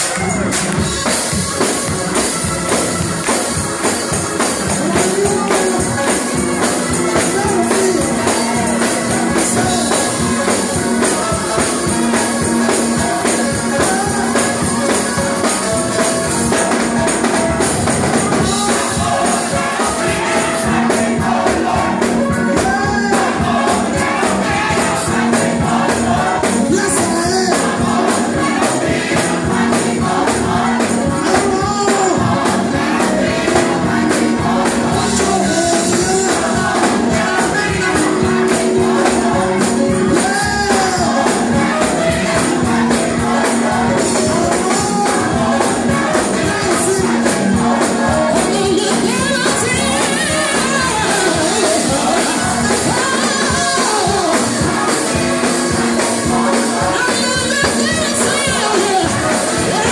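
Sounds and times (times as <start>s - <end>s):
organ and keyboard: 0.0s - 59.9s
steady percussion: 0.0s - 59.9s
voices singing gospel: 0.0s - 59.9s.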